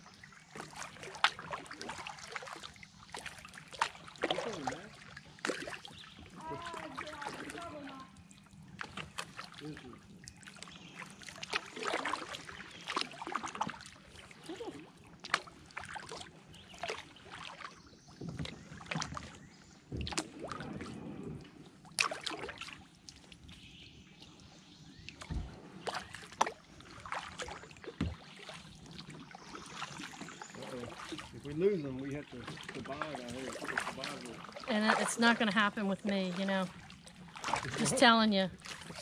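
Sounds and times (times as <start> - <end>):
paddle dipping in water: 0.0 - 39.0
water drips and splashes: 0.0 - 39.0.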